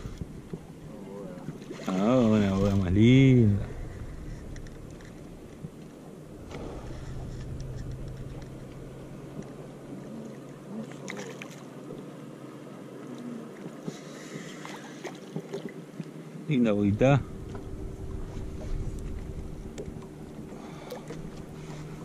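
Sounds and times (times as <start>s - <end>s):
boat motor humming: 0.0s - 13.8s, 16.7s - 22.0s.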